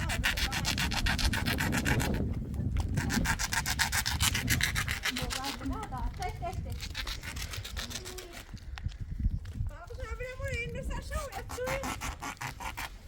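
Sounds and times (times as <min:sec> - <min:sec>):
rapid rubbing or scraping strokes: 0:00.0 - 0:08.5, 0:11.0 - 0:13.0.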